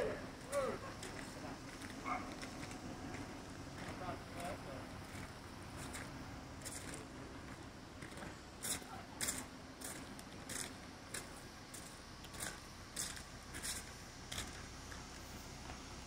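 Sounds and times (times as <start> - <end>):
footsteps crunching on icy gravel: 0.4 - 15.9.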